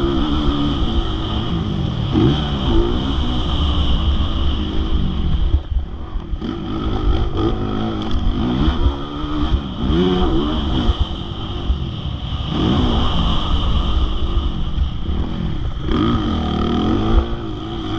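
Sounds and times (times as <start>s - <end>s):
low rumble: 0.0s - 17.9s
motorbike engine revving: 0.0s - 17.9s
steady high whine: 0.0s - 17.9s.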